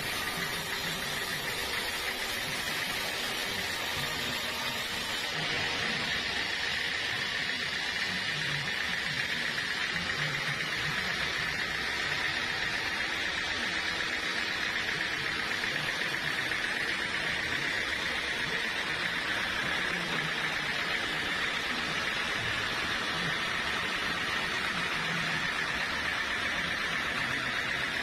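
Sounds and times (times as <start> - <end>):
sawmill saw cutting wood: 0.0 - 28.0.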